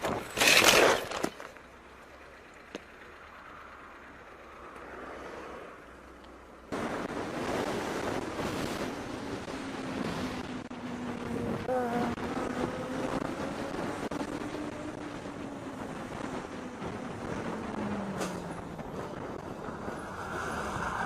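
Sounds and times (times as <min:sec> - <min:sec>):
wind and road noise: 0:00.0 - 0:21.0
engine drone: 0:00.1 - 0:21.0.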